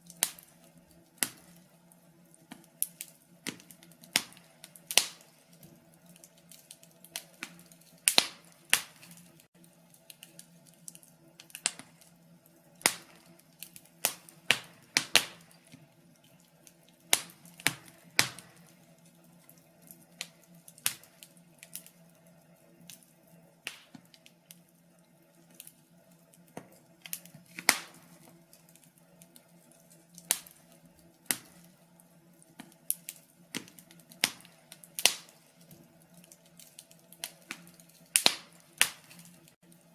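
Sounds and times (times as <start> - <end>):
sharp pops and snaps: 0.0 - 12.2, 12.8 - 18.8, 19.8 - 21.9, 23.6 - 24.6, 26.3 - 29.5, 30.2 - 31.8, 32.4 - 39.6
faint steady hum: 0.0 - 39.9
wood fire crackling: 0.0 - 39.9.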